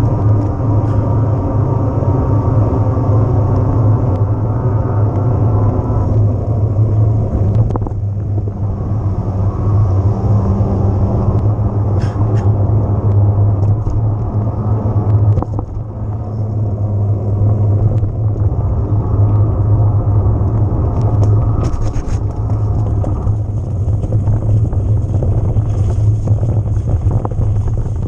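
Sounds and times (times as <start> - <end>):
electric bike riding hum: 0.0 - 28.0.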